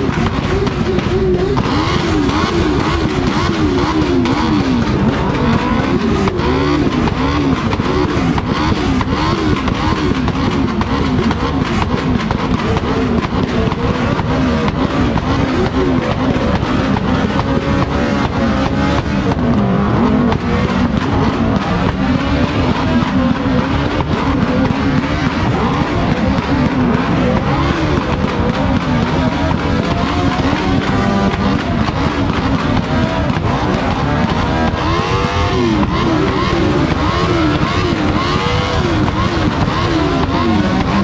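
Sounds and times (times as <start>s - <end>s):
motorcycle engines revving: 0.0s - 41.0s.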